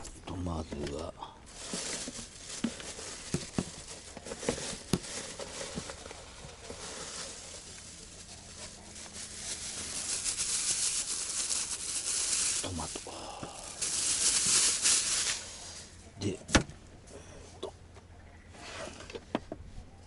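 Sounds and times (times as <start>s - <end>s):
rustling and crinkling: 0.0s - 16.2s.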